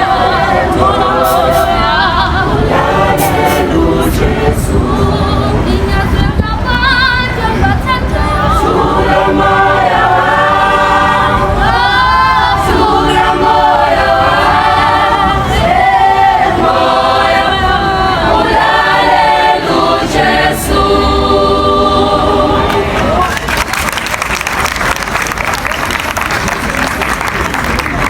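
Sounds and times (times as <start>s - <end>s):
choir singing: 0.0s - 23.4s.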